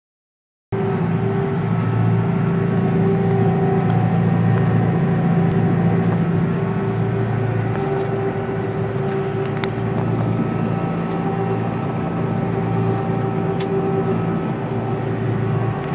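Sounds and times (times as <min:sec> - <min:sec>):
tractor diesel engine running: 0:00.8 - 0:15.9.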